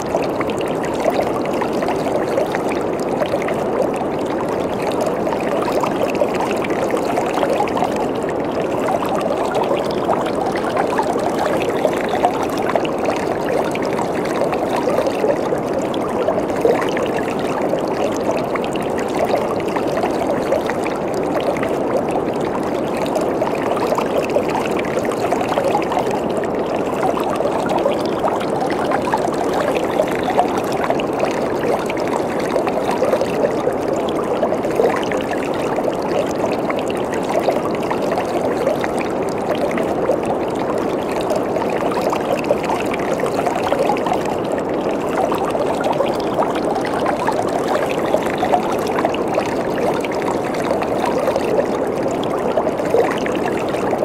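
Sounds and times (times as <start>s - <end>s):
bubbling crackle: 0.0s - 54.0s.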